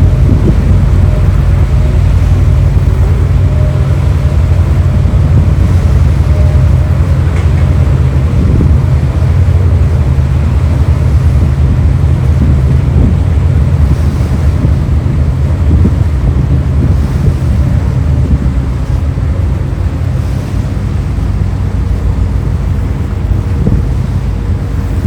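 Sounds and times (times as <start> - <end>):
boat engines droning: 0.0 - 25.0
rushing water: 0.0 - 25.0
wind buffeting microphone: 0.0 - 25.0.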